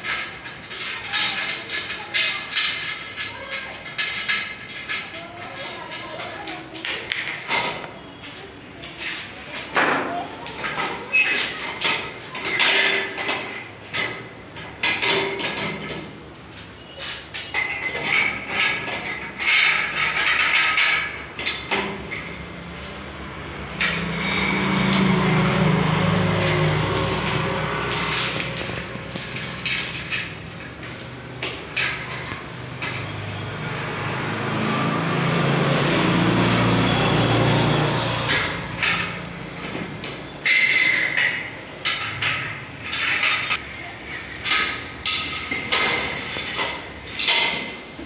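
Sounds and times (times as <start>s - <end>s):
metal springs tapping and clinking: 0.0s - 8.0s, 8.8s - 48.0s.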